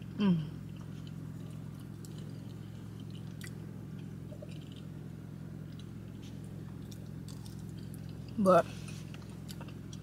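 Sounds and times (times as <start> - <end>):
steady low hum: 0.0 - 10.0
person chewing food: 0.6 - 5.0, 5.6 - 10.0.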